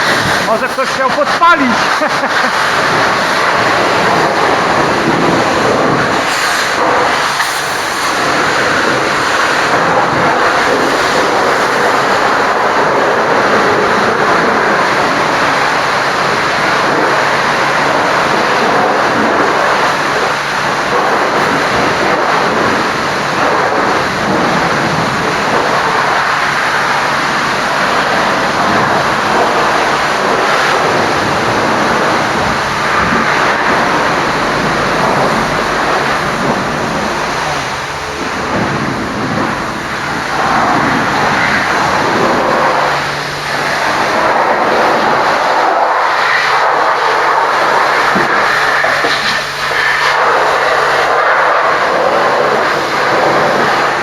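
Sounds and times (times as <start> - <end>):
pressure washer spraying water: 0.0 - 54.0.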